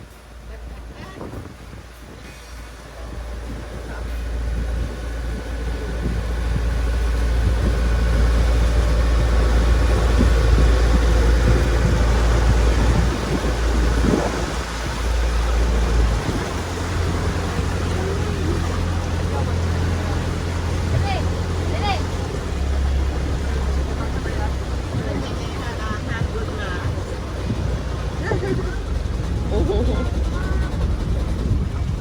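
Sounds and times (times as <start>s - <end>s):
motorboat engine running: 0.0s - 32.0s
wind rumbling on microphone: 0.0s - 32.0s.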